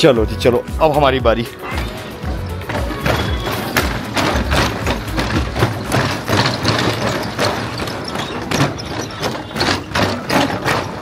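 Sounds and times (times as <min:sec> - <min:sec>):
footsteps on wooden planks: 0:01.6 - 0:11.0.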